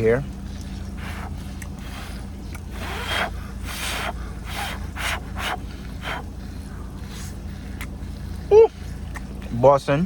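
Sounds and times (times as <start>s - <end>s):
steady low hum: 0.0s - 10.0s
breaths and mouth noises: 0.6s - 9.5s.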